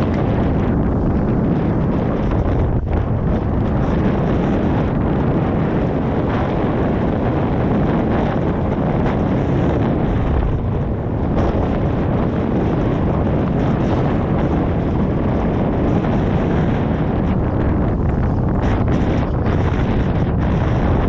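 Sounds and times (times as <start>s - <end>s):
sea washing against rocks: 0.0s - 21.0s
wind buffeting microphone: 0.0s - 21.0s.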